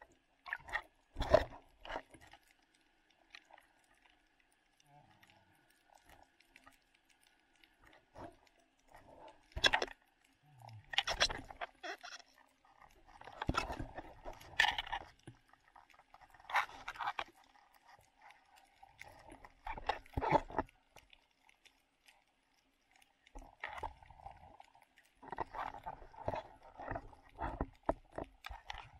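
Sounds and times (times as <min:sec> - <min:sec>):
underwater crackling and bubbling: 0:00.0 - 0:28.9.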